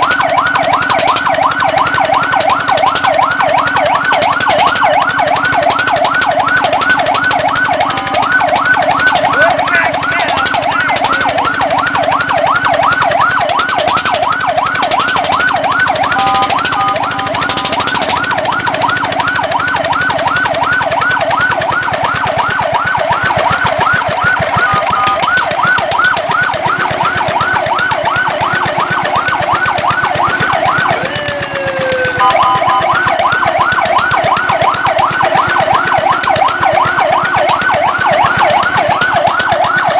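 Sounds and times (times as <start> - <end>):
fire truck siren yelping: 0.0 - 39.9
siren steady tones: 0.0 - 39.9.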